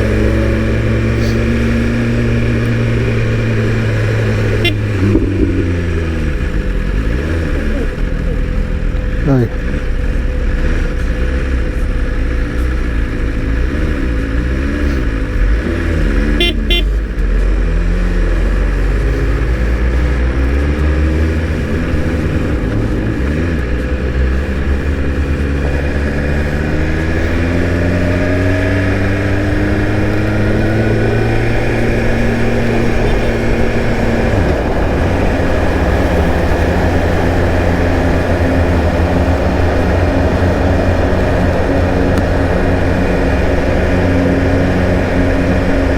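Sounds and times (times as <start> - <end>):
low road noise: 0.0 - 45.9
motorcycle engine running: 0.0 - 45.9.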